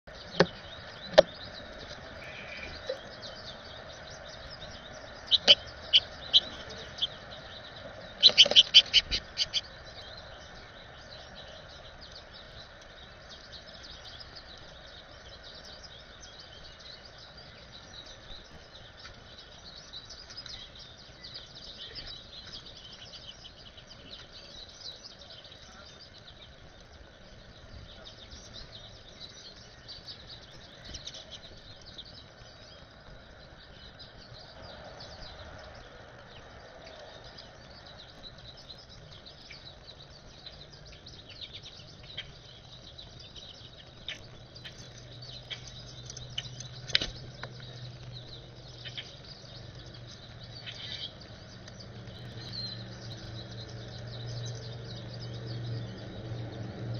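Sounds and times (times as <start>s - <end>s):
outdoor background hiss: 0.0s - 56.9s
small birds chirping: 0.0s - 56.9s.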